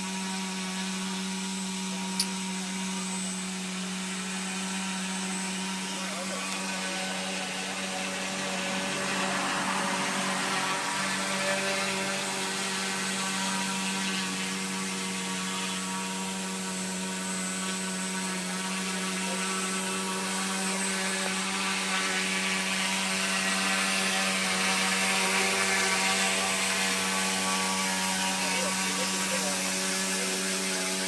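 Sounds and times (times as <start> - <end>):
model helicopter engine: 0.0 - 31.0
rotor noise: 1.8 - 31.0.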